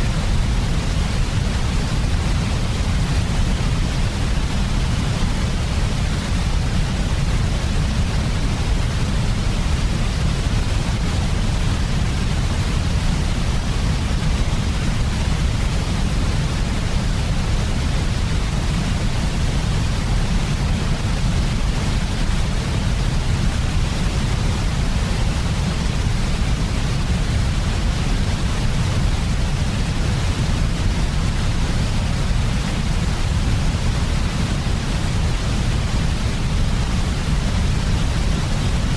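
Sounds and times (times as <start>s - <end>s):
white noise rush: 0.0s - 38.9s.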